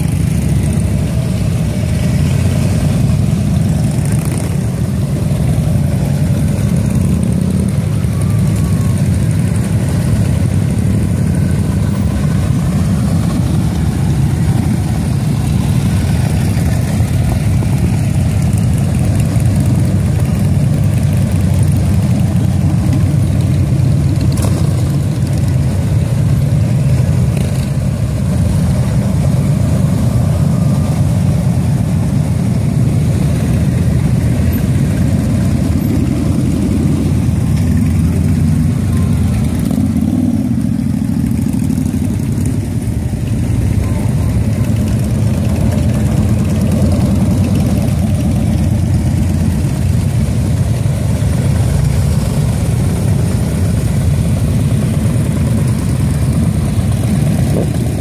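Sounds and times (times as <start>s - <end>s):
motorcycle engines rumbling: 0.0s - 58.0s.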